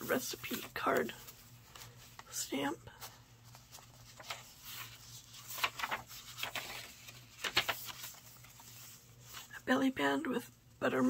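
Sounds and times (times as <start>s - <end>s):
paper pages rustling: 0.0s - 9.6s.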